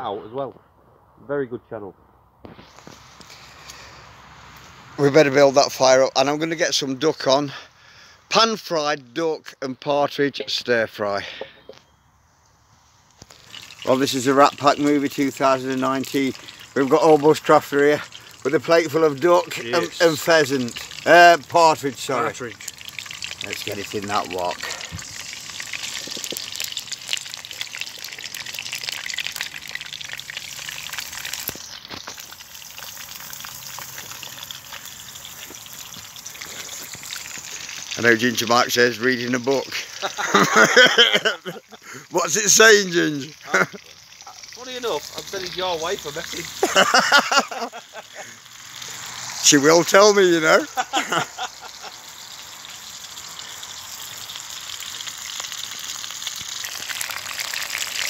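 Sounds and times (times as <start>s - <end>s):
meat sizzling in a wok: 2.5s - 5.0s, 12.8s - 58.0s.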